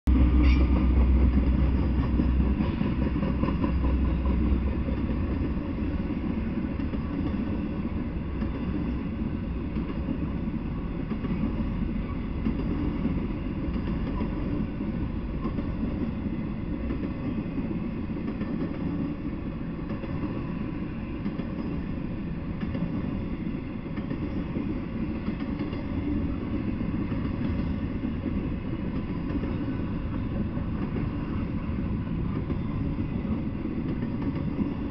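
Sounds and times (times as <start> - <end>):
freight train rumbling and rattling: 0.0 - 34.9.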